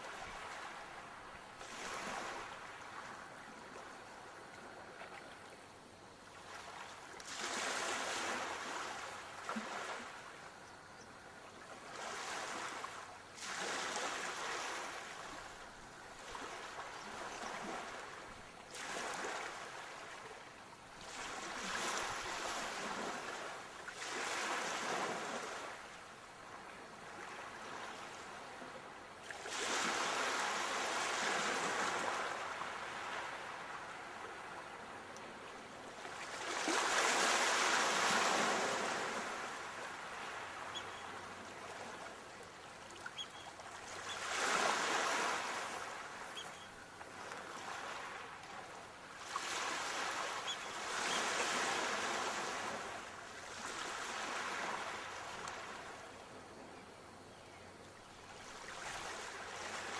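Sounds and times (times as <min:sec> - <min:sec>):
sea waves breaking ashore: 0:00.0 - 0:05.3, 0:06.3 - 0:10.3, 0:11.8 - 0:56.1.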